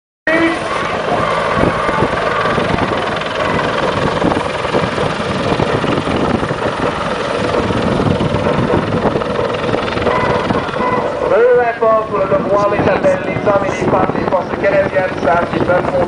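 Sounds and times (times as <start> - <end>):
helicopter rotor and turbine: 0.3 - 16.0.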